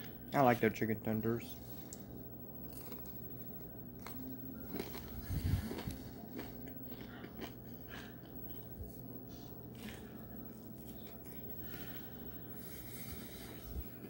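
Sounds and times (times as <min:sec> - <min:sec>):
faint low hum: 0:00.0 - 0:14.0
person chewing breaded chicken: 0:01.7 - 0:14.0.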